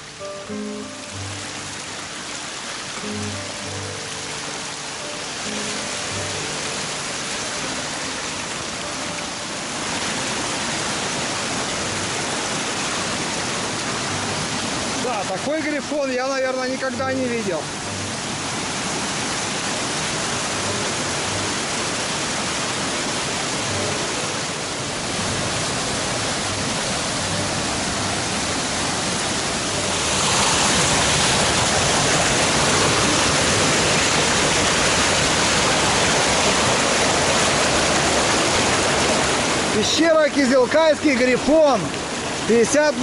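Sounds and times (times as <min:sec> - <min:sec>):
stream rushing over rocks: 0:00.0 - 0:43.0.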